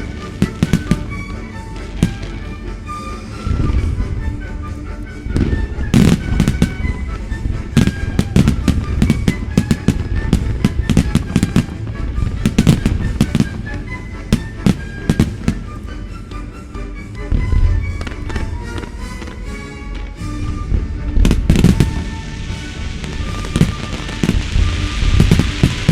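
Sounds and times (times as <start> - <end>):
fireworks bangs: 0.0 - 4.5, 5.1 - 16.2, 17.3 - 19.5, 20.4 - 25.9
music: 0.0 - 25.9.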